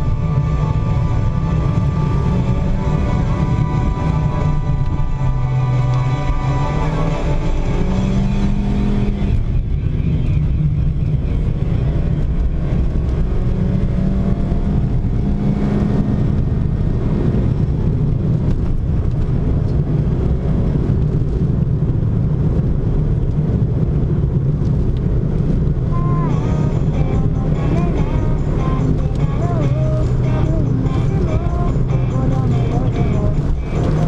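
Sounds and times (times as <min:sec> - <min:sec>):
car engine: 0:00.0 - 0:34.0
road noise: 0:00.0 - 0:34.0.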